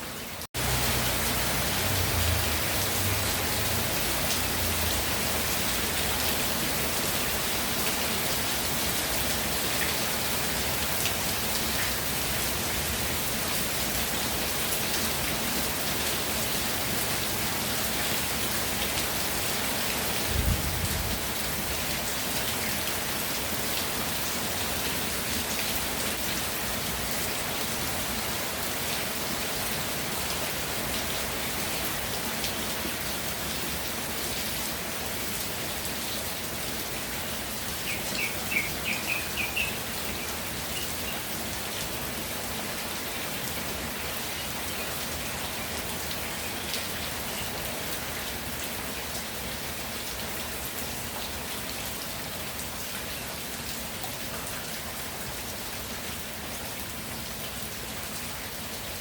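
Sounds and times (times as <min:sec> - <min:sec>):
rain pattering on ground: 0:00.3 - 0:59.0.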